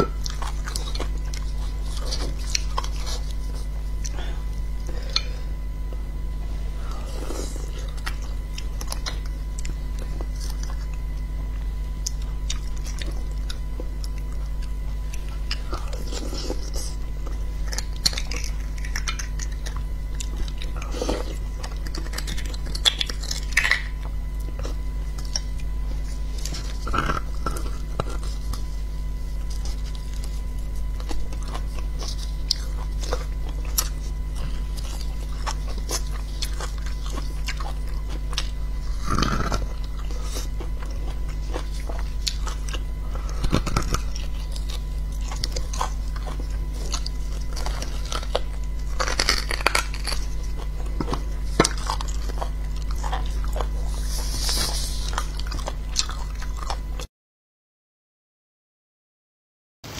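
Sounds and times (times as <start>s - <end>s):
wet mouth clicks chewing: 0.0s - 4.2s, 7.4s - 28.7s, 29.3s - 57.1s.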